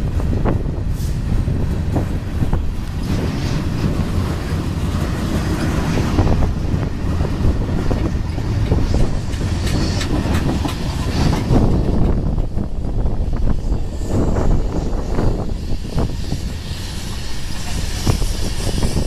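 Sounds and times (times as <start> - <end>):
freight train rolling past: 0.0 - 19.0
steel wheels clattering on rails: 0.0 - 19.0.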